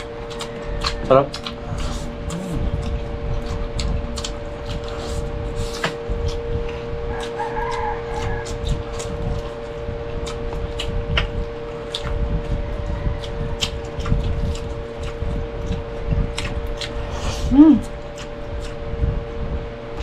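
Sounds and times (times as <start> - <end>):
chewing: 0.0 - 19.0
steady hum: 0.0 - 20.0.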